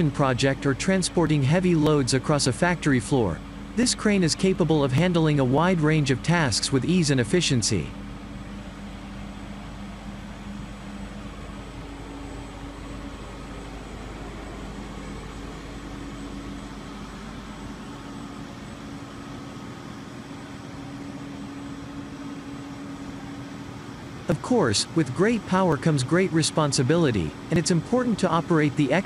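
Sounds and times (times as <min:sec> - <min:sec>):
construction machinery engines: 0:00.0 - 0:29.0.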